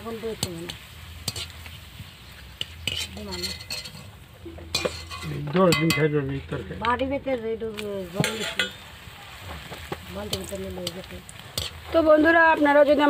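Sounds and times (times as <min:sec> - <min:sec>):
metal spoon scraping wok: 0:00.0 - 0:06.6, 0:07.7 - 0:13.0
food frying in hot oil: 0:00.0 - 0:13.0.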